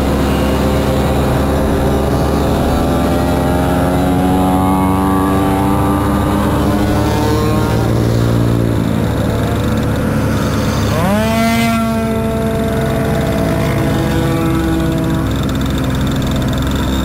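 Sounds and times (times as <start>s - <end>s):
moped engines running: 0.0s - 17.0s.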